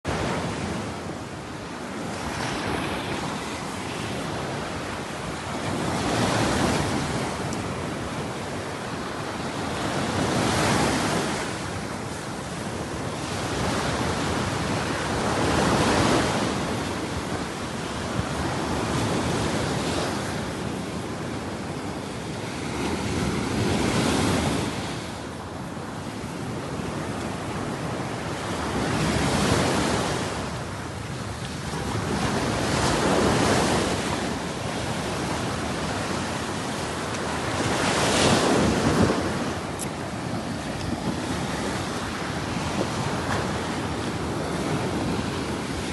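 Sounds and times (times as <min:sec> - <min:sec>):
waves washing ashore: 0:00.1 - 0:45.9
wind on microphone: 0:00.1 - 0:45.9.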